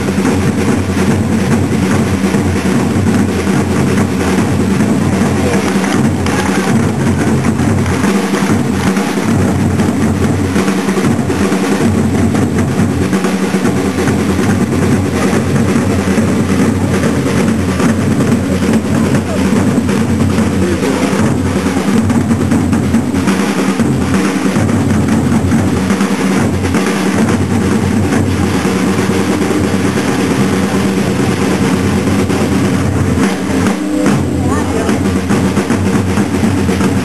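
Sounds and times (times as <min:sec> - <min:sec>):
side drums playing a beat: 0:00.0 - 0:37.0.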